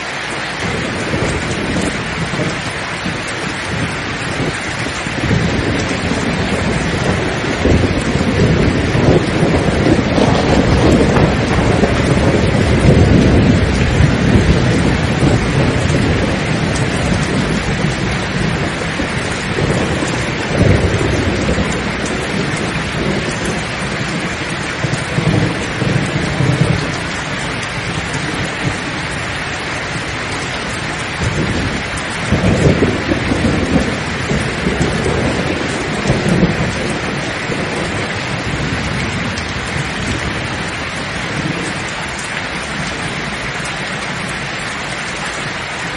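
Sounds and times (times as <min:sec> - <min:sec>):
heavy rain: 0:00.0 - 0:45.9
thunder rumbling: 0:00.0 - 0:45.9.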